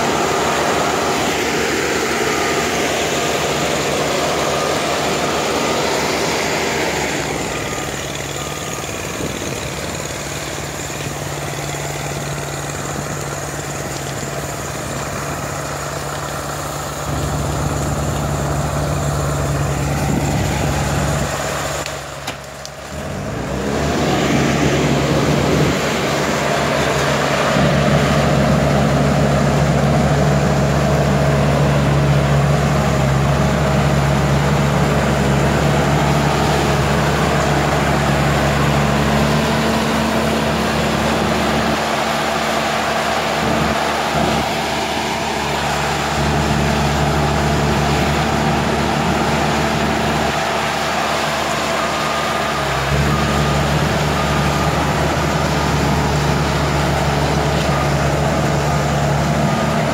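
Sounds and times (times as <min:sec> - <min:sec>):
bulldozer diesel engines running: 0:00.0 - 0:59.9.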